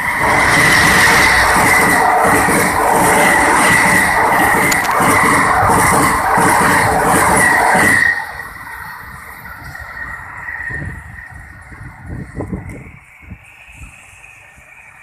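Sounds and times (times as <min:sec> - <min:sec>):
high ringing rails: 0:00.0 - 0:15.0
train wheels clattering on rails: 0:00.0 - 0:15.0.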